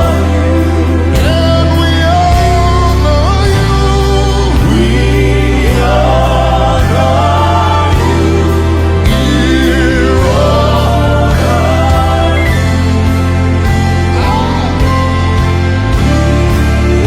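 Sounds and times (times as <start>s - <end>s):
band with full bass: 0.0s - 17.0s
voices singing gospel: 0.0s - 17.0s.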